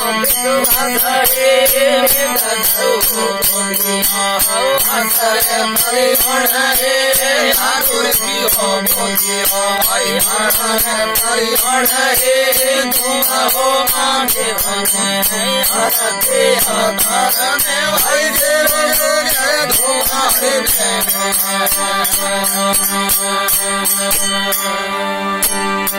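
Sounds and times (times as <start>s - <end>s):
jingling percussion: 0.0s - 25.9s
ornamented folk melody: 0.0s - 25.9s
steady drone: 0.0s - 25.9s.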